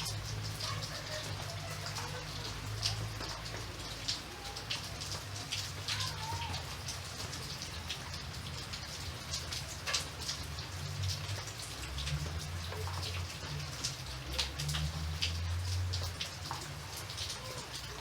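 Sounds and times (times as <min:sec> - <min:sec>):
rain falling: 0:00.0 - 0:18.0
raindrops striking surface: 0:00.0 - 0:18.0.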